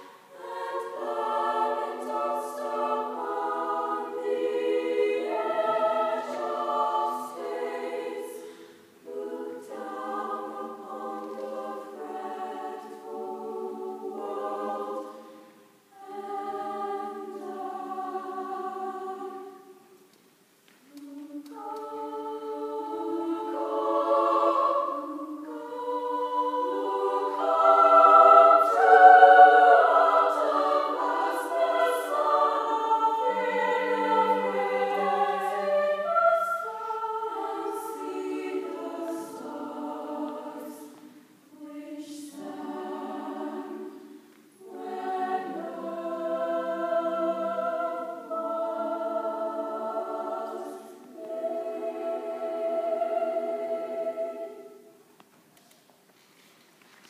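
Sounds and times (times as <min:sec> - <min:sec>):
girls singing in harmony: 0:00.0 - 0:55.3.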